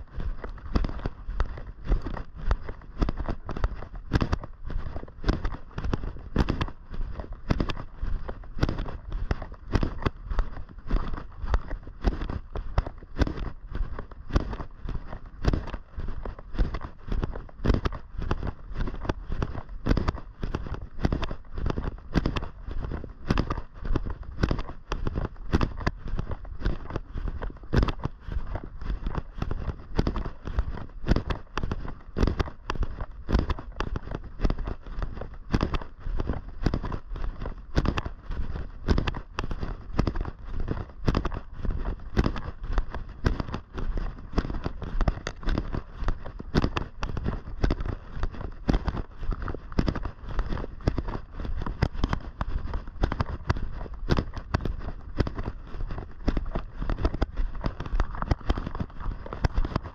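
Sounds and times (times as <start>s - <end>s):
footsteps crunching: 0.0s - 59.9s.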